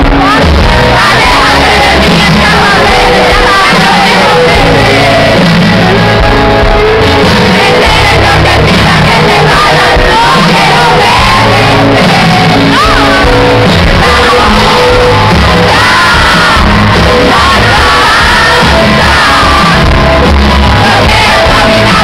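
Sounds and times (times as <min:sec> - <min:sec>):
live pop band playing: 0:00.0 - 0:22.0
man singing into microphone: 0:00.0 - 0:22.0
audience shouting: 0:00.1 - 0:22.0.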